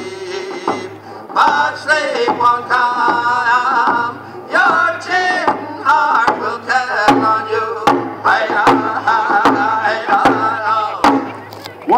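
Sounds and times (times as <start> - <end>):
men singing in unison: 0.0 - 11.2
hand drums beating: 0.2 - 11.5.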